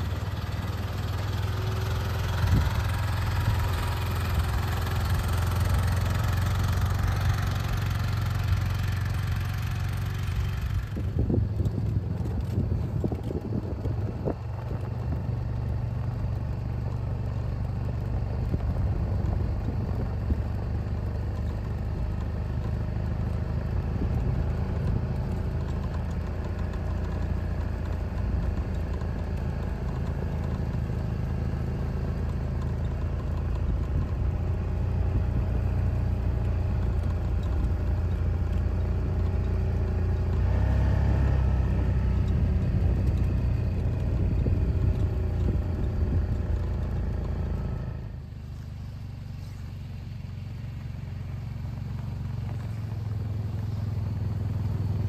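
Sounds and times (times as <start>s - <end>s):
engine low hum: 0.0s - 55.0s.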